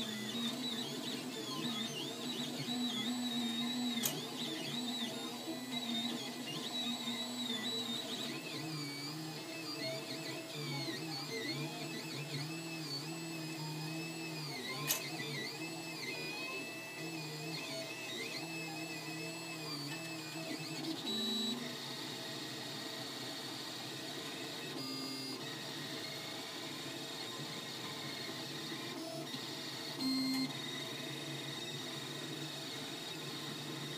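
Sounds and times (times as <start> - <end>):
printer stepper motors whining: 0.0 - 33.9.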